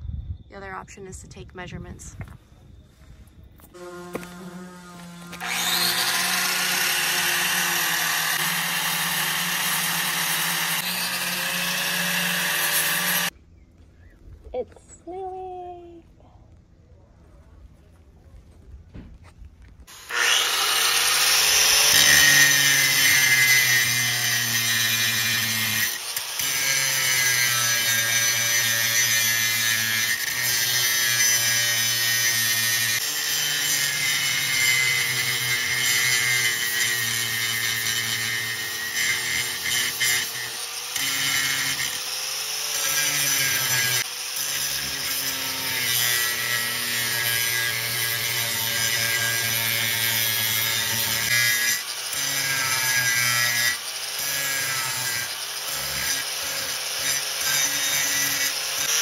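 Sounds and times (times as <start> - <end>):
angle grinder grinding fiberglass: 3.6 - 13.3, 19.9 - 59.0.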